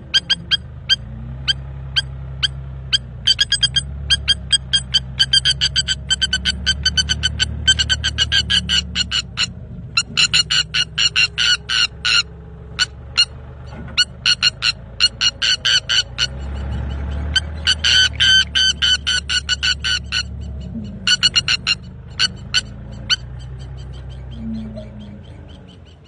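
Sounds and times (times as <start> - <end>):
bird calling in sharp notes: 0.0 - 26.0.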